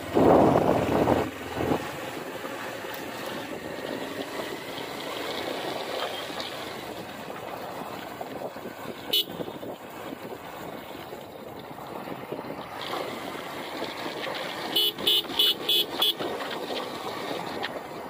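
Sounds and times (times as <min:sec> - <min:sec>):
vehicle running noise: 0:00.0 - 0:18.0.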